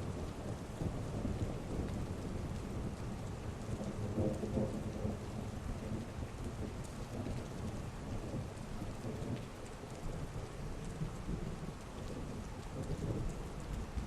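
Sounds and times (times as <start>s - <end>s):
heavy rain falling: 0.0s - 14.0s
low rolling thunder: 0.0s - 14.0s.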